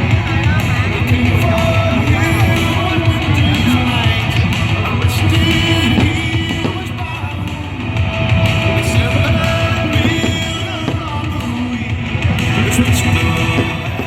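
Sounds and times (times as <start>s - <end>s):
drums: 0.0s - 14.0s
guitar: 0.0s - 14.0s
loud rock music: 0.0s - 14.0s
person singing: 0.0s - 14.0s.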